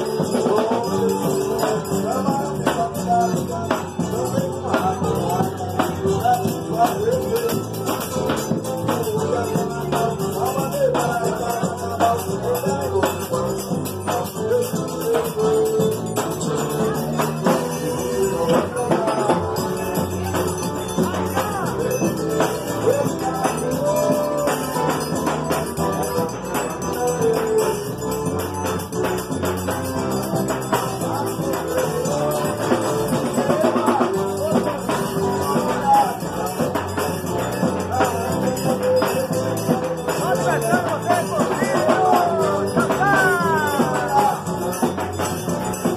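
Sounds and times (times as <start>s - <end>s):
accordion: 0.0s - 45.9s
bass drum: 0.0s - 45.9s
guitars: 0.0s - 45.9s
jingling hand percussion: 0.0s - 45.9s.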